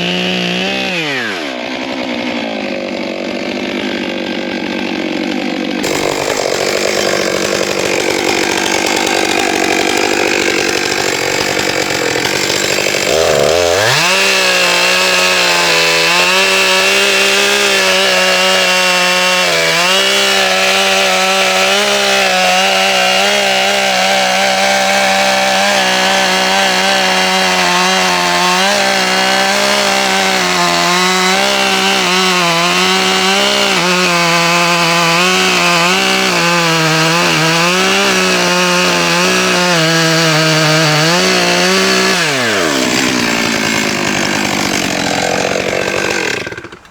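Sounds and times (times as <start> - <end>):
chainsaw cutting a log: 0.0 - 46.9.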